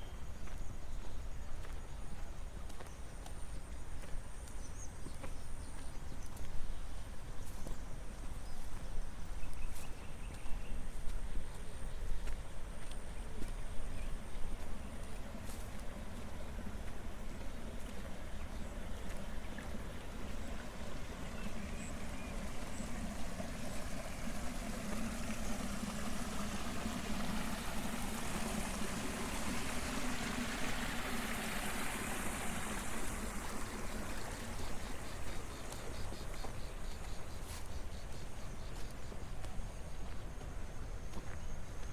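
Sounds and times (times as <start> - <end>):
water running in a channel: 0.0 - 41.9.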